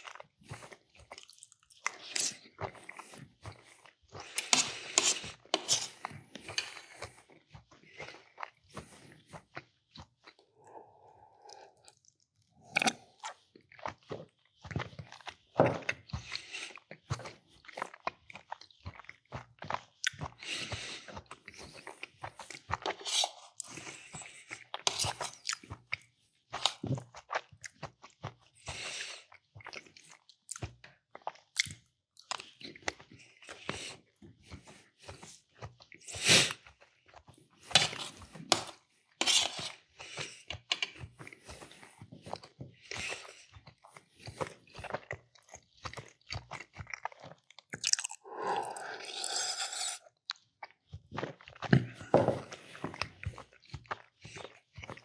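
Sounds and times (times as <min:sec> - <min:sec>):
person chewing and crunching food: 0:00.0 - 0:55.0.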